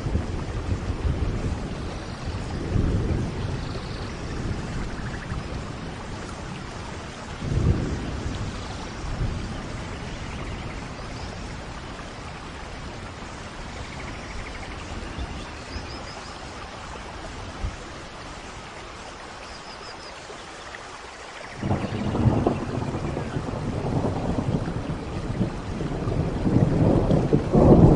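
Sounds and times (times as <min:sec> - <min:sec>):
thunder rumbling: 0:00.0 - 0:17.8, 0:21.6 - 0:27.9
rain falling in forest: 0:00.0 - 0:27.9.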